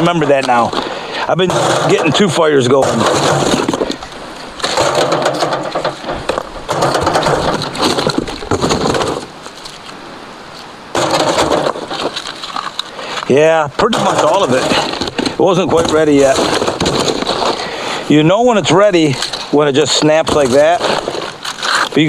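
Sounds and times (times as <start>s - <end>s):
charcoal lumps clattering in cardboard box: 0.0s - 9.8s, 11.0s - 22.0s.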